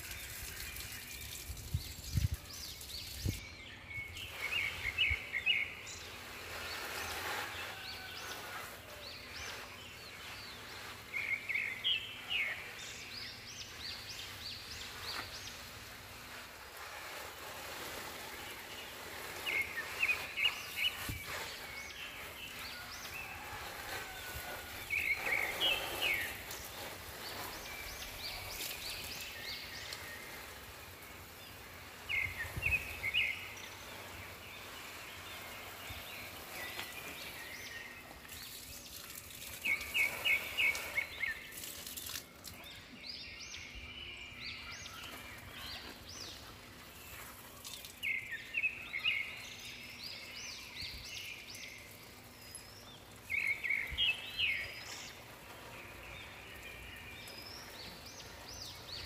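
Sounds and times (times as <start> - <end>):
bird chirping: 0.0 - 59.0
faint steady hiss: 0.0 - 59.0.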